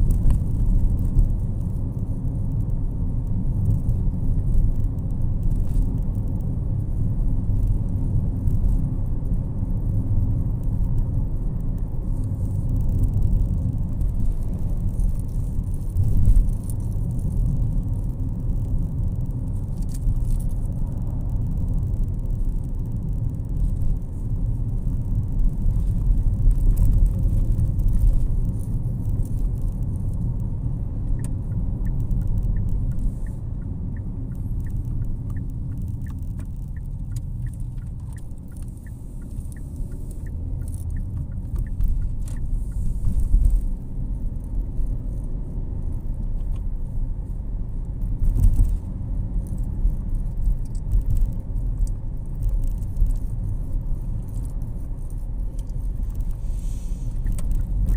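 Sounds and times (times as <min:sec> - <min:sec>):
turn signal ticking: 0:00.0 - 0:57.9
tyre and engine rumble: 0:00.0 - 0:57.9.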